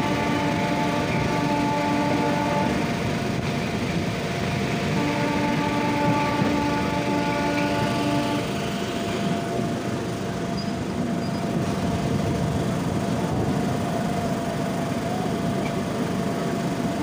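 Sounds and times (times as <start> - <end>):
electric train running on track: 0.0 - 17.0.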